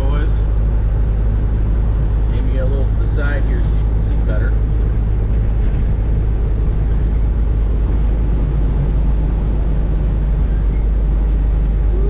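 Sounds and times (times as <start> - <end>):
diesel engine droning: 0.0 - 12.0
road noise: 0.0 - 12.0.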